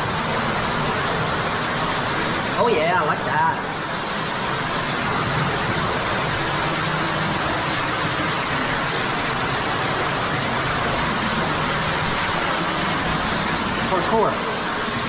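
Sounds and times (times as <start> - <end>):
water rushing in a cave: 0.0 - 15.0.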